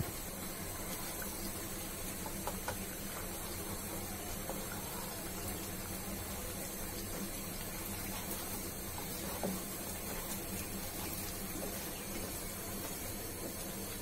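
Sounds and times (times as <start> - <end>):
eggs sizzling in oil: 0.0 - 14.0.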